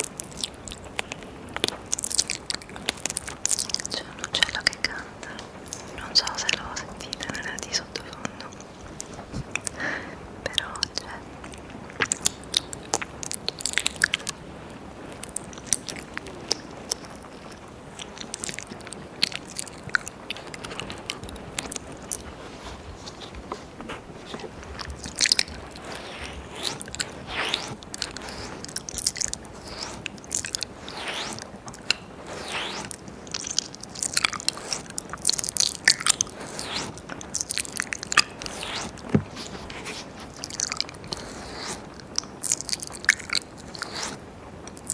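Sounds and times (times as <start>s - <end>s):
wet mouth licking sounds: 0.0s - 9.8s, 10.5s - 14.4s, 15.0s - 22.3s, 24.3s - 44.9s.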